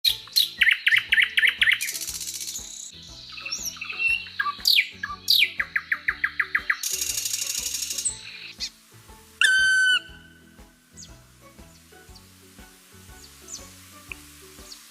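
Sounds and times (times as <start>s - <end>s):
background music: 0.0s - 14.9s
songbird chirping: 0.0s - 14.9s.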